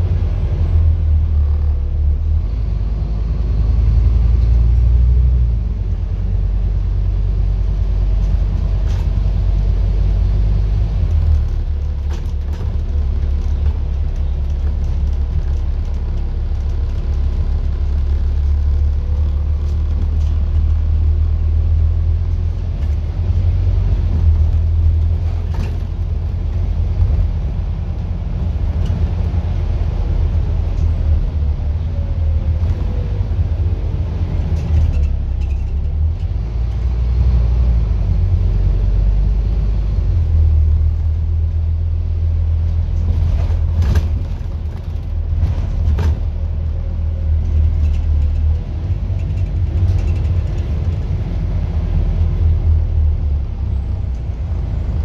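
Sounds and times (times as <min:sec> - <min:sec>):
bus engine drone: 0:00.0 - 0:55.0
road rumble: 0:00.0 - 0:55.0.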